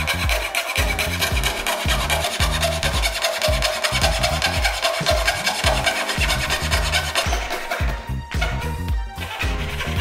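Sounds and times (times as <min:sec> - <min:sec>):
background music: 0:00.0 - 0:10.0
fret saw cutting plywood: 0:00.0 - 0:10.0.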